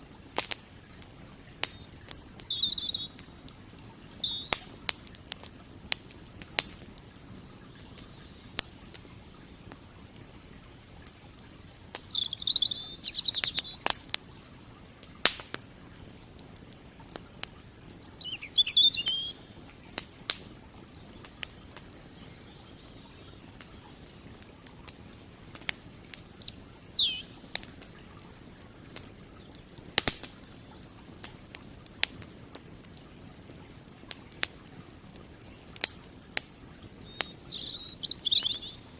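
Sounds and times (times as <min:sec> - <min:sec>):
birds chirping: 0:00.0 - 0:15.0, 0:17.0 - 0:31.2, 0:32.9 - 0:38.9
campfire crackling and popping: 0:00.0 - 0:38.9
creek flowing: 0:00.0 - 0:38.9.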